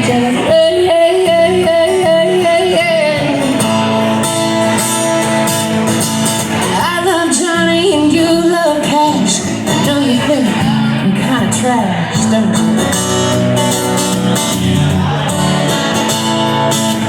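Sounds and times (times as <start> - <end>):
guitar: 0.0 - 17.0
live band playing country-rock: 0.0 - 17.0.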